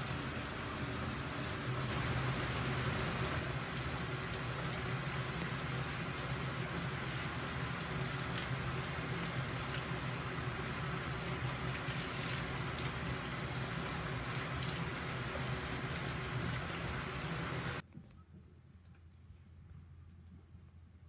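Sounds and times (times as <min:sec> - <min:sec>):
rushing water: 0:00.0 - 0:17.8.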